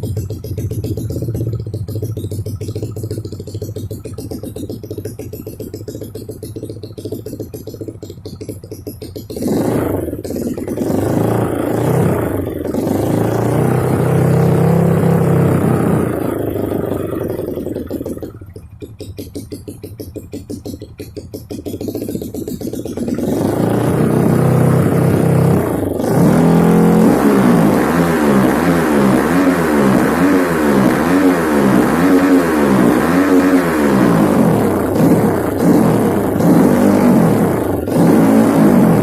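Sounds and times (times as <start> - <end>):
engine throttle blips: 0.0 - 39.0
motorcycle engine revving: 0.0 - 39.0.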